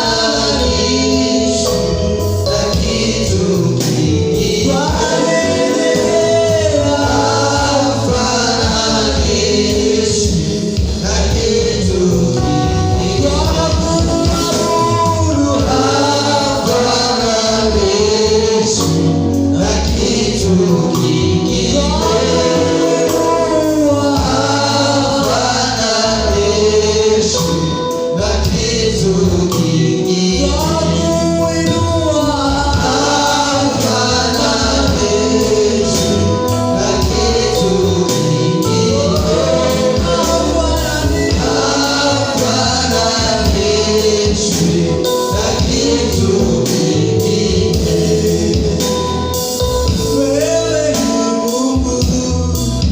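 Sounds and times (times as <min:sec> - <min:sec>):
bass and drums: 0:00.0 - 0:52.9
group of voices singing: 0:00.0 - 0:52.9.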